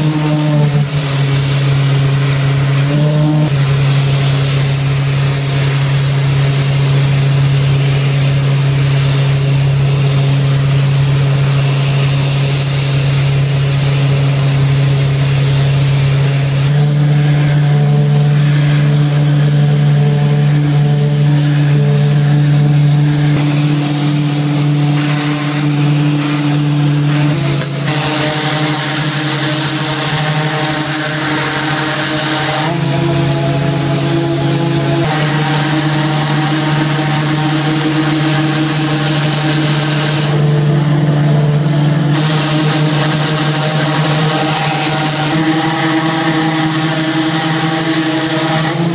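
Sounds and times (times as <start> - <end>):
engines droning with jet-like roar: 0.0 - 48.9.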